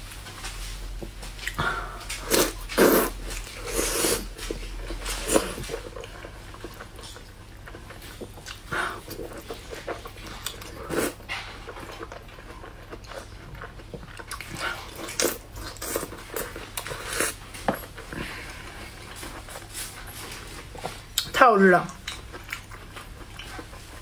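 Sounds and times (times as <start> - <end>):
wet chewing and lip smacking: 1.4 - 24.0.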